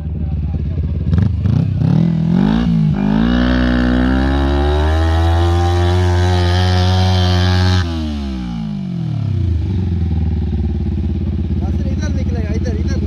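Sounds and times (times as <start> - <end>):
go-kart engine revving: 0.9 - 13.0.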